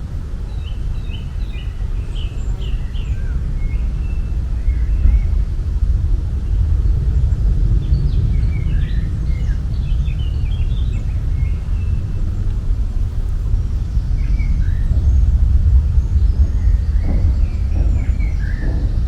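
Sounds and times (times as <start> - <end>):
low outdoor rumble: 0.0 - 19.0
birds chirping: 0.4 - 19.0.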